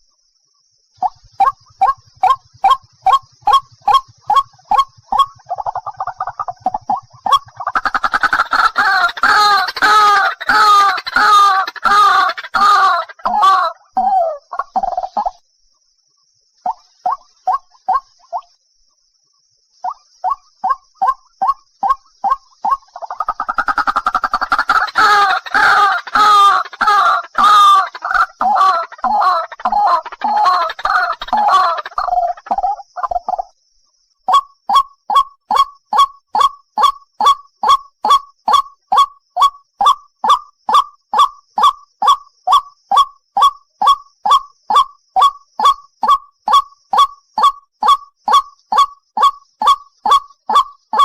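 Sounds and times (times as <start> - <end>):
waterhen calling: 1.0 - 15.4, 16.6 - 18.5, 19.8 - 33.4, 34.3 - 51.0.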